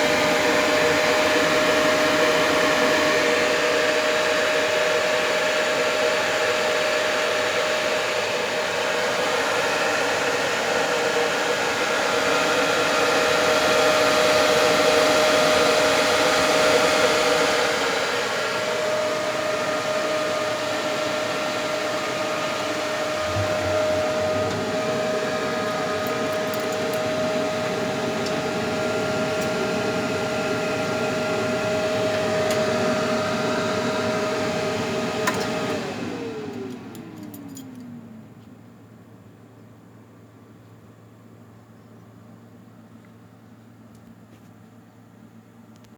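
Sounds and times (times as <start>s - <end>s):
computer fans whirring: 0.0s - 39.1s.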